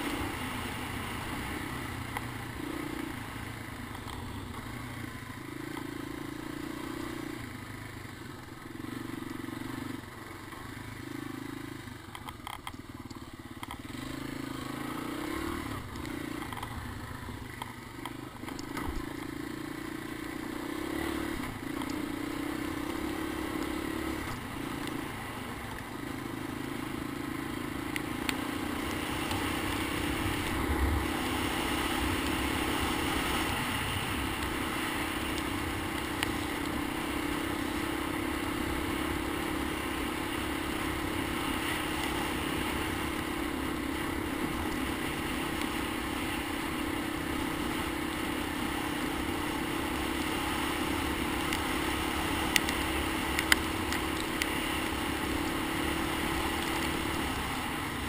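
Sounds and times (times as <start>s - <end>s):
three-wheeler engine running: 0.0s - 58.0s.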